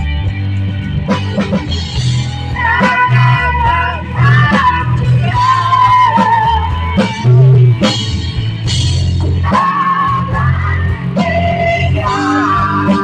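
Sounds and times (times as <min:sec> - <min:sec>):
rock band music: 0:00.0 - 0:13.0.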